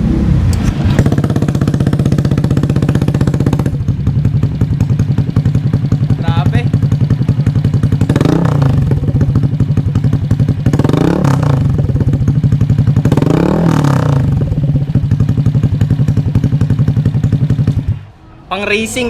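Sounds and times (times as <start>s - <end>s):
scooter engine idling and revving: 0.0s - 18.5s.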